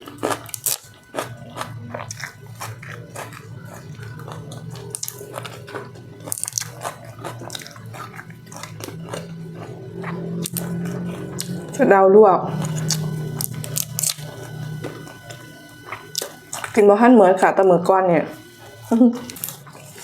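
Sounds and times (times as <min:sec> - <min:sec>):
person chewing crunchy vegetables: 0:00.0 - 0:11.9, 0:12.5 - 0:17.0, 0:18.3 - 0:20.0
low steady hum: 0:00.0 - 0:20.0.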